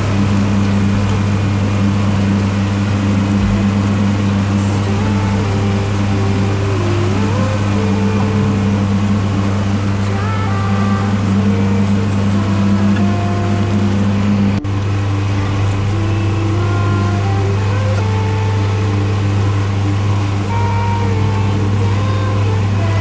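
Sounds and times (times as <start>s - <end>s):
boat engine humming: 0.0s - 23.0s
slow background music: 0.0s - 23.0s.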